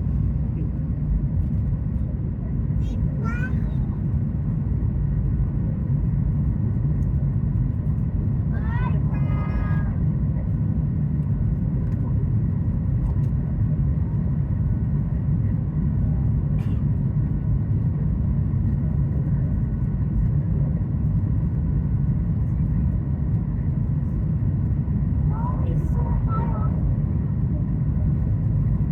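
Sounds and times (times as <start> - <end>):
airplane engine cabin rumble: 0.0 - 28.9.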